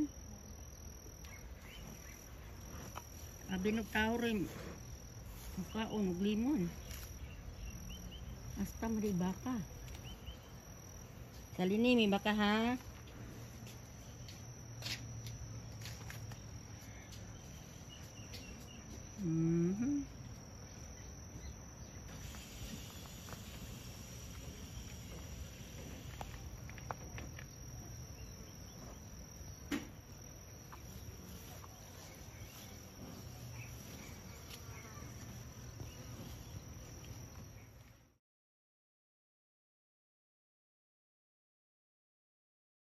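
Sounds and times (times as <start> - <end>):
insects trilling: 0.0 - 38.2.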